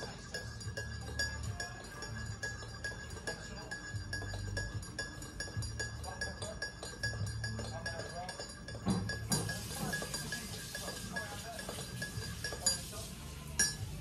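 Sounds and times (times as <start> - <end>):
household items clinking and clattering: 0.0 - 14.0.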